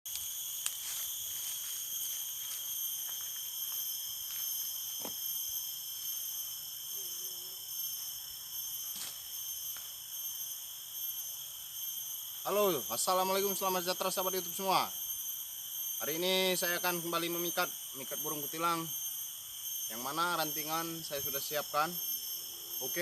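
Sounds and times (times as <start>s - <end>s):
insects shrilling: 0.1s - 23.0s.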